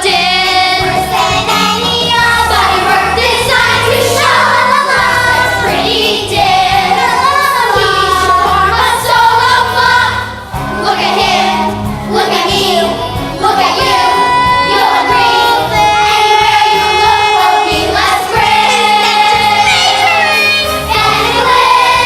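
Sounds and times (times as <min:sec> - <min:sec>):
chorus singing: 0:00.0 - 0:22.0
instrumental accompaniment: 0:00.0 - 0:22.0.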